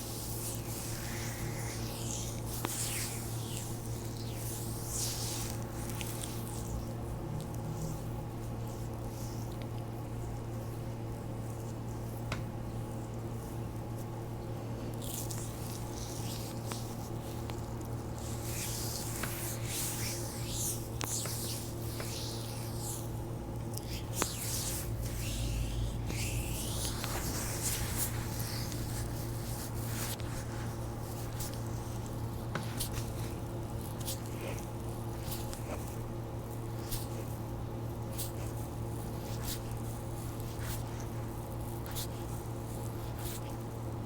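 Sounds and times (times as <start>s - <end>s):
skin sliding on skin: 0.0s - 7.9s, 15.0s - 44.0s
steady low hum: 0.0s - 44.0s.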